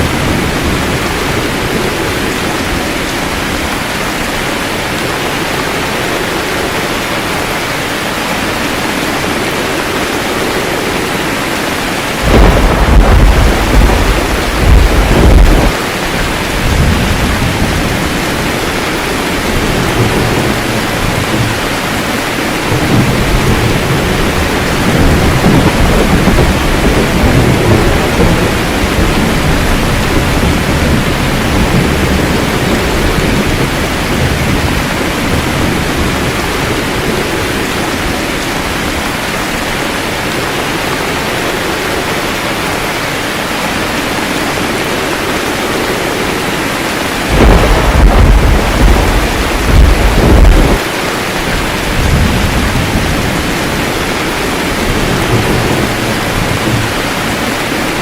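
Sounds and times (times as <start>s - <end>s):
thunder rumbling: 0.0s - 42.2s, 44.6s - 58.0s
heavy rain: 0.0s - 58.0s.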